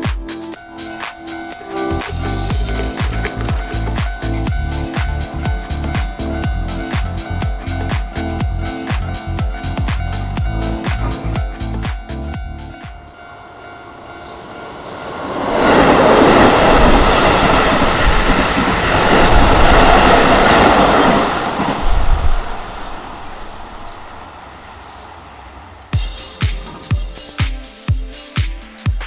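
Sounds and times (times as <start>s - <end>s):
electric train rumbling past: 0.0s - 27.4s.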